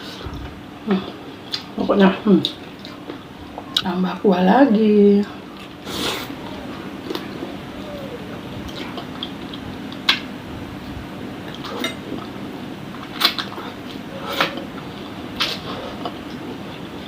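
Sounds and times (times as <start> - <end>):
soft eating noises: 0.0 - 17.0.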